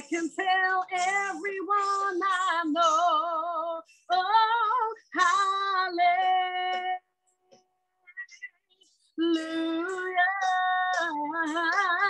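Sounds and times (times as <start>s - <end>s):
woman singing: 0.0s - 7.1s, 9.2s - 12.0s.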